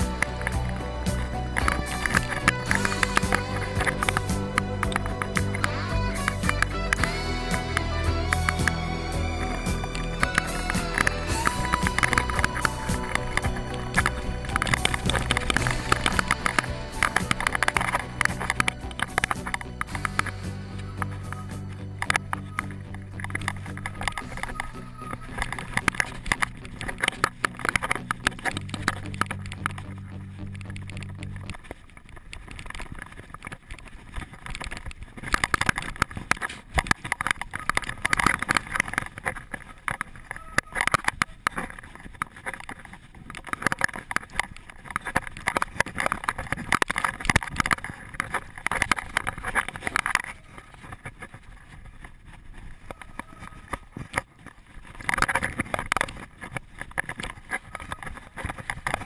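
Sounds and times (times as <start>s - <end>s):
bike frame rattling and knocking: 0.0s - 59.0s
low steady hum: 0.0s - 59.0s.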